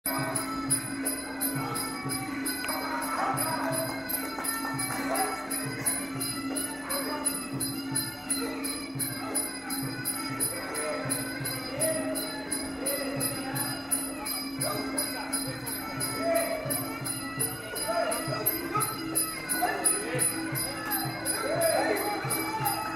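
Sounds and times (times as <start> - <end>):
hand cymbals clinking: 0.1 - 22.9
hand drums: 0.1 - 22.9
wavering pitched melody: 0.1 - 22.9.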